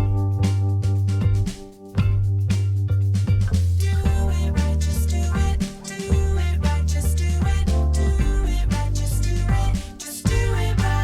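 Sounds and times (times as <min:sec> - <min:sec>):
music with heavy bass beat: 0:00.0 - 0:11.0.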